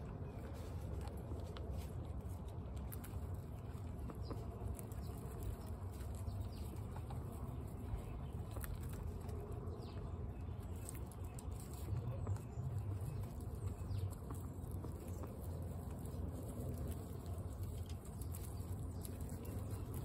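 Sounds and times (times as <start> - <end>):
guinea pigs crunching pellets: 0.0 - 20.0.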